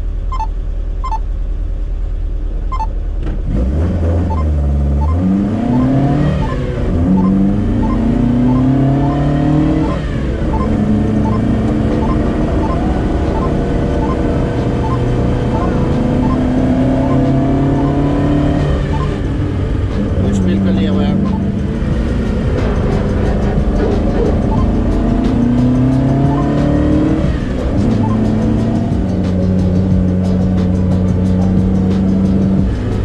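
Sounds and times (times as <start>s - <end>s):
car engine revving through gears: 2.7s - 33.0s.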